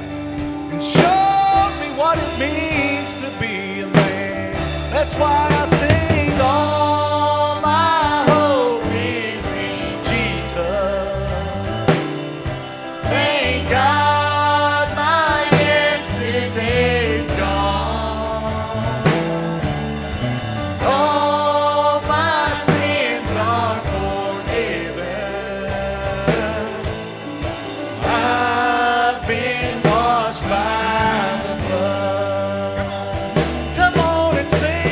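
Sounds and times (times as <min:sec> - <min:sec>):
acoustic guitar: 0:00.0 - 0:34.9
backing voices: 0:00.0 - 0:34.9
drum kit: 0:00.0 - 0:34.9
electric guitar: 0:00.0 - 0:34.9
man singing lead: 0:00.0 - 0:34.9.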